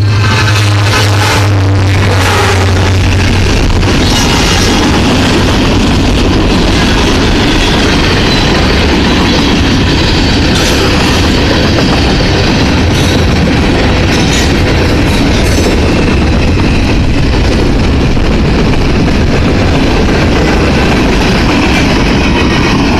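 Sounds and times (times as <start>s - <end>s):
train cars rumbling past: 0.0s - 22.9s
wheels clacking over rail joints: 0.3s - 22.9s.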